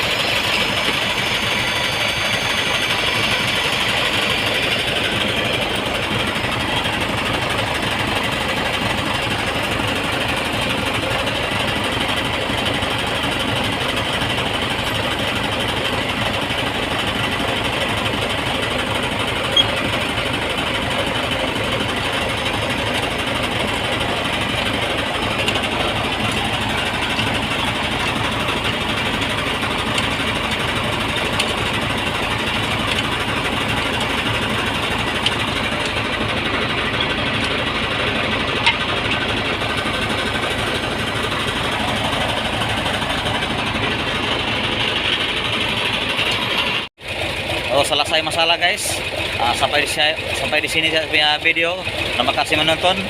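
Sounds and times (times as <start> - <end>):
machine rattling: 0.0 - 53.0.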